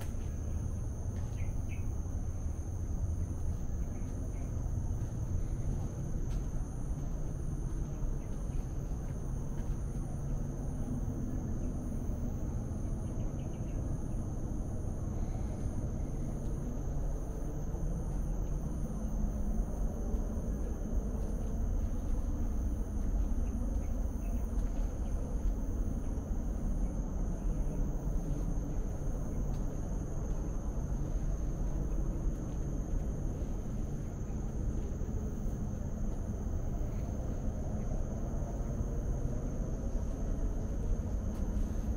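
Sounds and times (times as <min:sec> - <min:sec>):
low outdoor rumble: 0:00.0 - 0:41.9.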